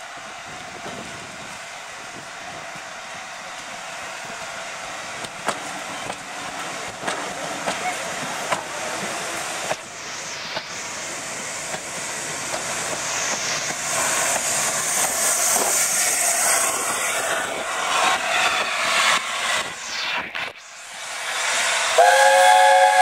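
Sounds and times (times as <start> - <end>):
steam hissing: 0.0 - 23.0
steam train passing slowly: 0.0 - 23.0.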